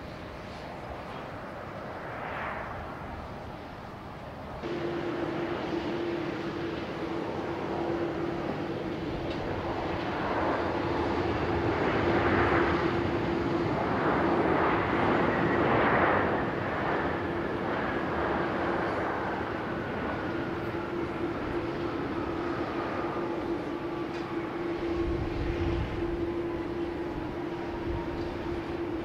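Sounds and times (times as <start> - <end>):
jet airliner engine noise: 0.0 - 29.0
steady hum: 4.4 - 29.0
faint falling whine: 4.6 - 29.0.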